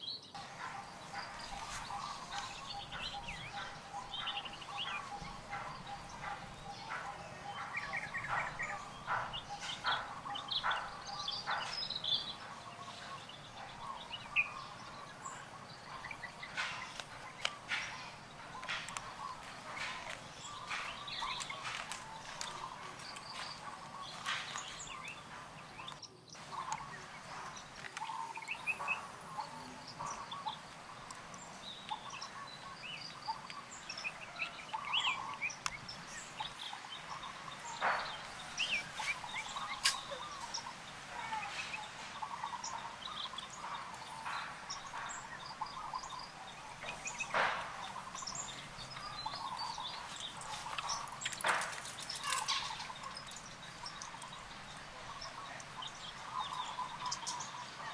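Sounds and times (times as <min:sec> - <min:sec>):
small animals chirping: 0:00.4 - 0:57.9.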